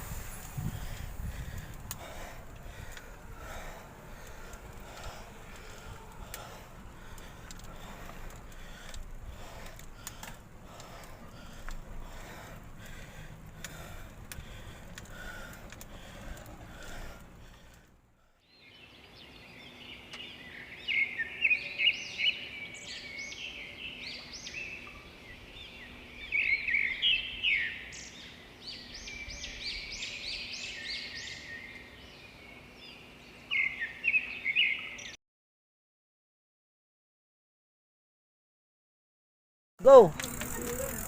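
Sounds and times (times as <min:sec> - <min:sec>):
small birds chirping and singing: 0:00.6 - 0:35.2.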